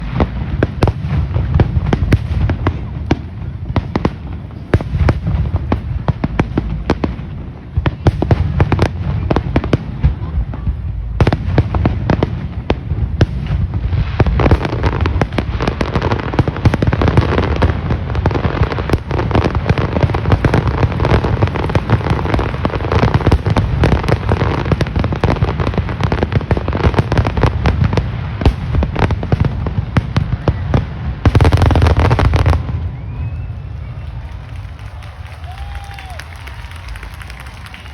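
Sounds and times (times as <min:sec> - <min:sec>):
fireworks crackling: 0:00.0 - 0:37.9.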